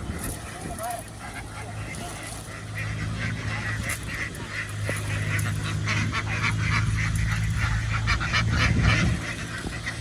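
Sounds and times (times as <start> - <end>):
ducks quacking: 0.0 - 10.0
steady low hum: 0.0 - 10.0.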